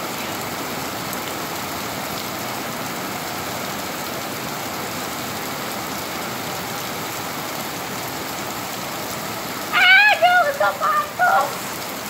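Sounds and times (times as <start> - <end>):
steady rain on concrete: 0.0 - 12.0.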